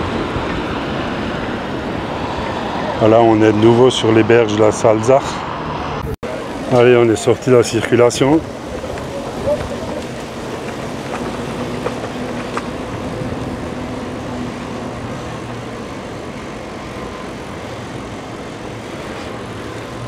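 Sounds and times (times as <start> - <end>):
wind and rolling noise: 0.0 - 20.0.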